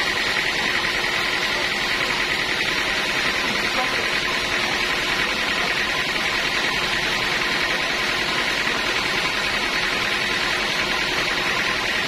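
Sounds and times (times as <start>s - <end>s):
band saw running: 0.0s - 12.0s.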